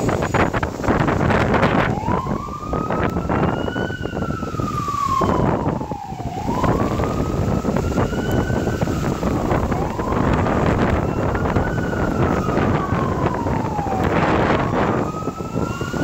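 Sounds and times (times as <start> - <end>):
fire truck siren wailing: 0.0 - 16.0
wind buffeting microphone: 0.0 - 16.0.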